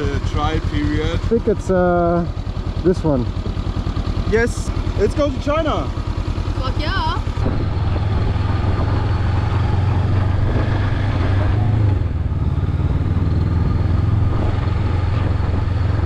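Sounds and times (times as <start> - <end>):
motorcycle engine riding off: 0.0 - 16.0.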